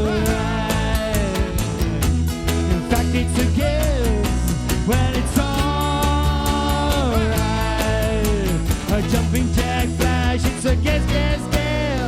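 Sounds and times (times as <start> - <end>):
bass: 0.0 - 12.0
bending guitar lines: 0.0 - 12.0
drum beat: 0.0 - 12.0.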